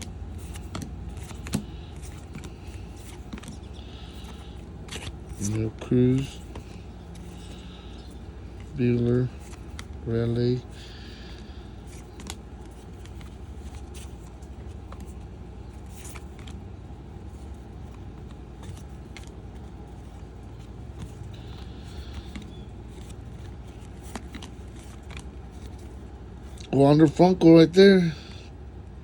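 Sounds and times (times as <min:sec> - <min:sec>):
cards flipped by hand: 0:00.0 - 0:26.7
low background hum: 0:00.0 - 0:29.0.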